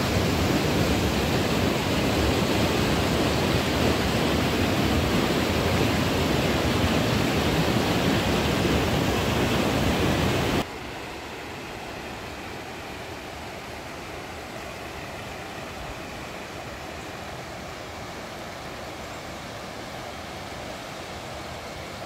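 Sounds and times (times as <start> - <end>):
river water rushing over cascades: 0.0 - 22.0.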